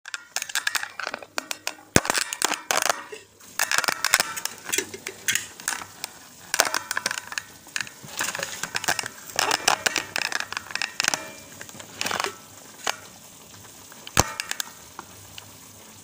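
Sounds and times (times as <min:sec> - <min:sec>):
fish crackling and popping in pan: 0:00.0 - 0:16.0.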